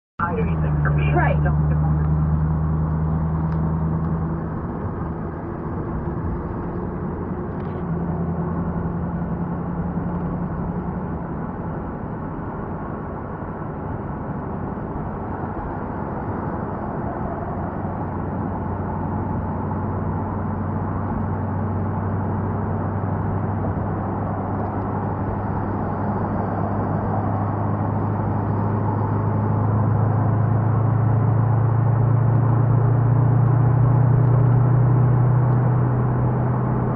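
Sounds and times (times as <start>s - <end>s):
car engine and road noise: 0.2s - 36.9s.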